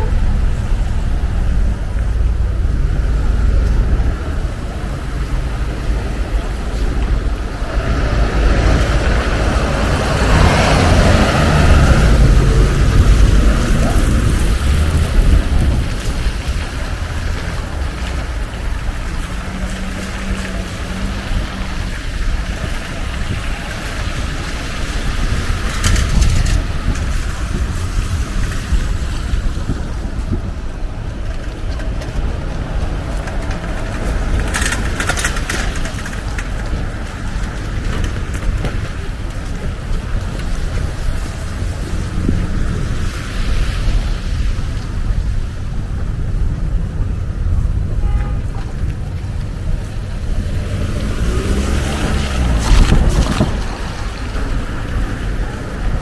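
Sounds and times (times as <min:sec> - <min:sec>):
car passing with low rumble: 0:00.0 - 0:56.0
outdoor street noise hiss: 0:00.0 - 0:56.0
wind buffeting microphone: 0:00.0 - 0:56.0.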